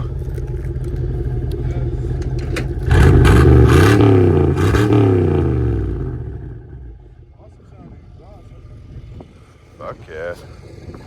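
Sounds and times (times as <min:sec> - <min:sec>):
truck engine idling and revving: 0:00.0 - 0:11.0.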